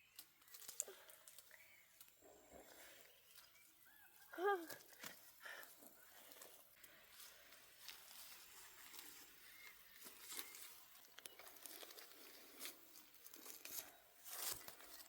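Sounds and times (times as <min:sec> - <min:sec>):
rustling and crinkling: 0:00.0 - 0:03.6, 0:04.6 - 0:15.0.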